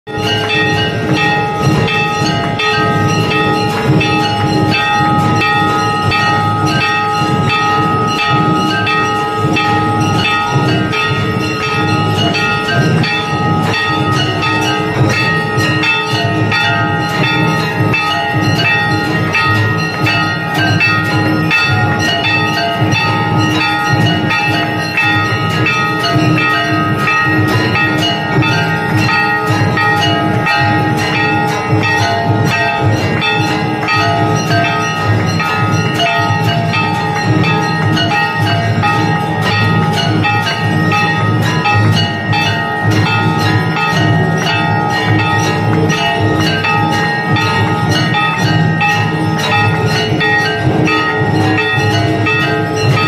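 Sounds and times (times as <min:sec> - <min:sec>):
brass bells clanging: 0:00.1 - 0:53.0.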